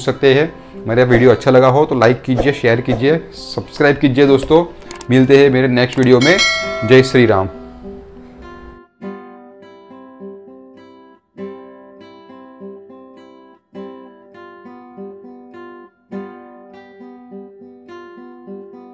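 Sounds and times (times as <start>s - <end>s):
acoustic guitar music: 0.0s - 18.9s.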